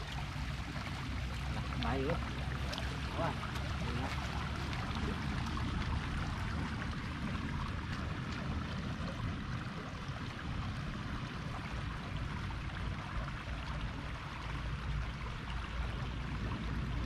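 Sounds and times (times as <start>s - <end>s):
heavy uneven low rumble: 0.0s - 17.0s.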